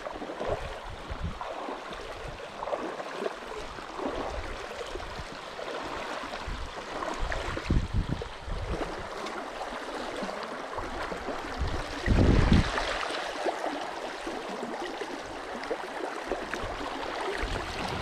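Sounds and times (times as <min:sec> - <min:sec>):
river water rushing over stones: 0:00.0 - 0:18.0.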